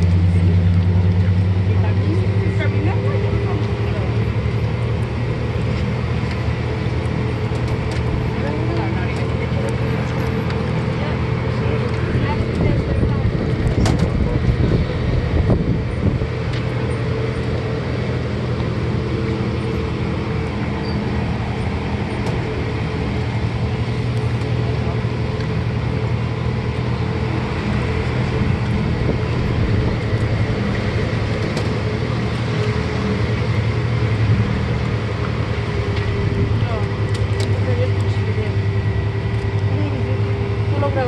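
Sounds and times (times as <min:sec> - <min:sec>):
road noise: 0:00.0 - 0:41.0
tram engine drone: 0:00.0 - 0:41.0.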